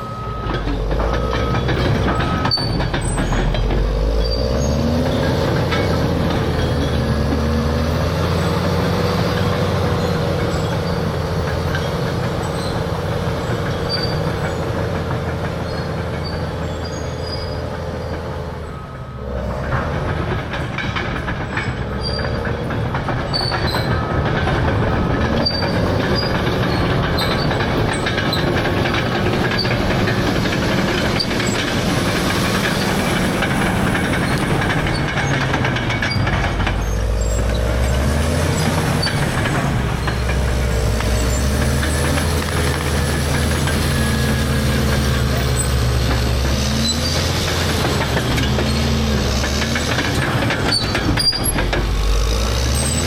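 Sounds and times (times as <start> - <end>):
bulldozer diesel engine drone: 0.0 - 53.0
metallic clicks from steel tracks: 9.3 - 53.0.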